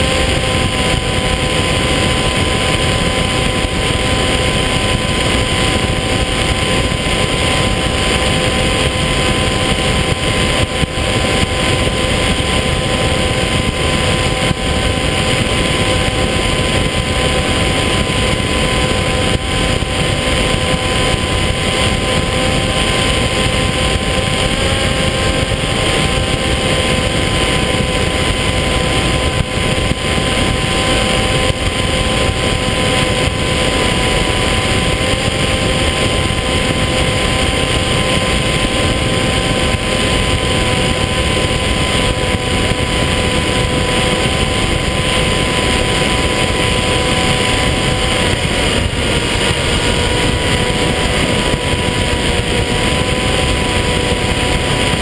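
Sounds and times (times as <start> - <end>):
electric motor whine: 0.0 - 55.0
wind rush: 0.0 - 55.0.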